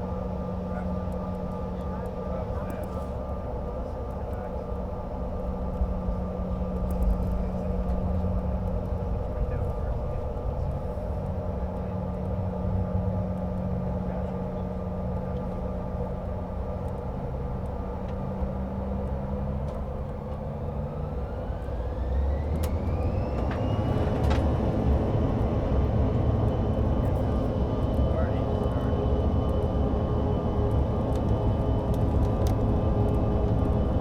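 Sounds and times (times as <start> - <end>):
jet engines humming and whining: 0.0 - 34.0.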